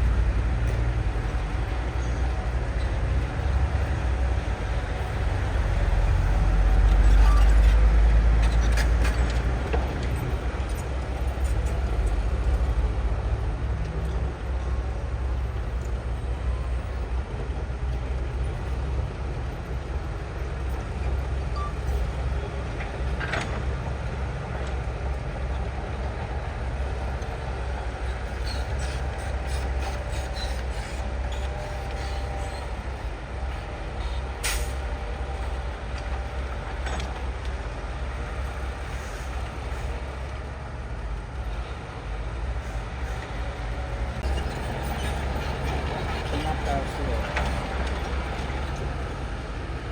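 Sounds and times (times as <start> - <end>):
diesel engine rumbling: 0.0 - 49.9.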